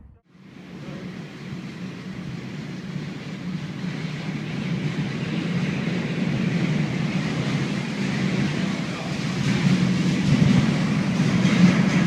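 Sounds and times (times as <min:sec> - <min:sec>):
moving train rumbling: 0:00.0 - 0:12.0.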